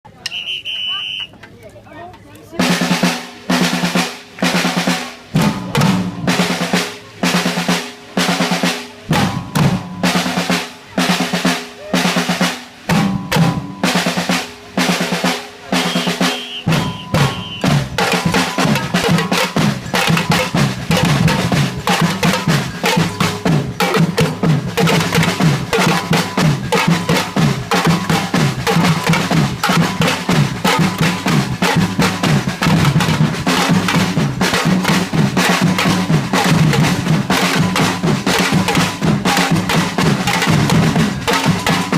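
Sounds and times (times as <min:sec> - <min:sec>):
drumming: 0:02.6 - 0:41.9.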